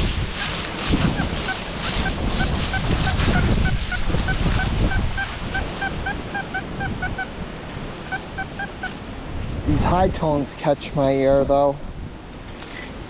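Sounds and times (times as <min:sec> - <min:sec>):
heavy wind buffeting microphone: 0:00.0 - 0:13.0.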